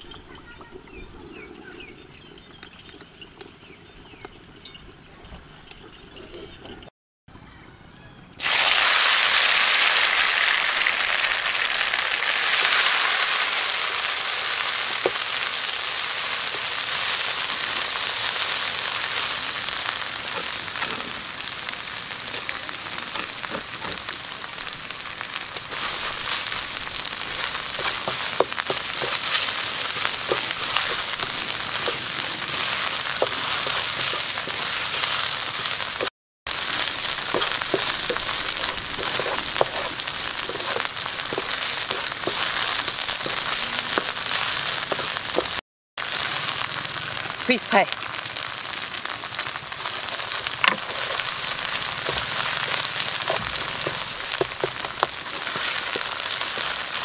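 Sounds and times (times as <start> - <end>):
food sizzling in hot oil: 8.4 - 57.0.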